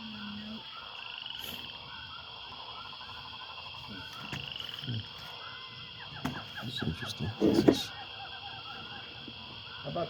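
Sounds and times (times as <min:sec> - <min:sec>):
frogs croaking and trilling: 0:00.0 - 0:10.0.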